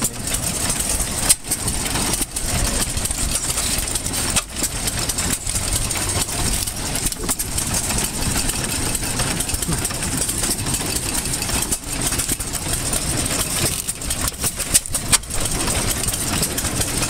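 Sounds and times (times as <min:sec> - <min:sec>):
old engines chugging: 0:00.0 - 0:17.0.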